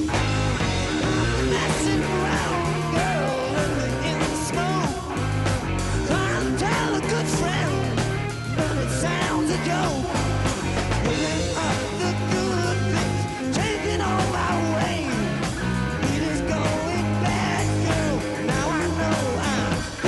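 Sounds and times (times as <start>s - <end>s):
bending electric guitar lead: 0.0s - 20.0s
hard rock band playing live: 0.0s - 20.0s.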